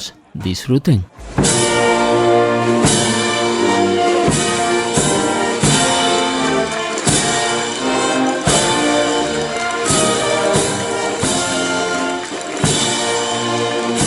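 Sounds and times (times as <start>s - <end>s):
drum beating steadily: 1.2s - 14.0s
brass band playing a march: 1.3s - 14.0s.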